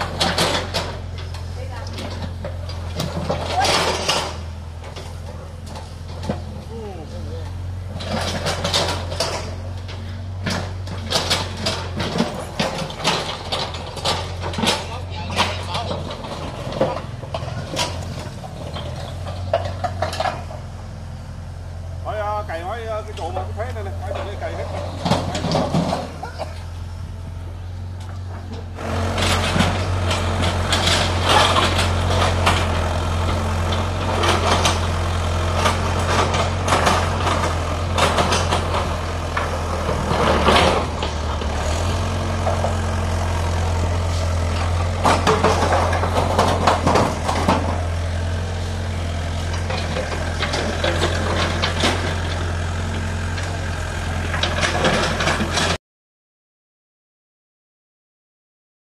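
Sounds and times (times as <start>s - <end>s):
diesel engine droning: 0.0s - 55.8s
excavator clatter and scraping: 0.0s - 55.8s.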